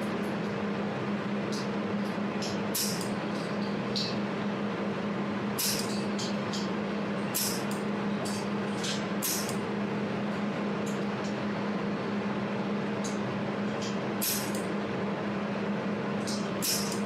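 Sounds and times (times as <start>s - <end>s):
welding machine hum: 0.0s - 17.0s.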